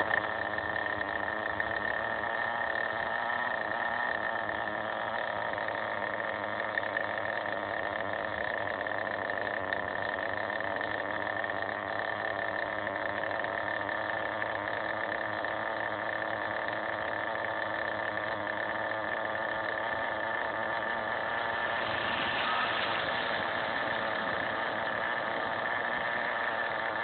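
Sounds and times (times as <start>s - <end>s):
small nitro engine idling: 0.0s - 27.0s.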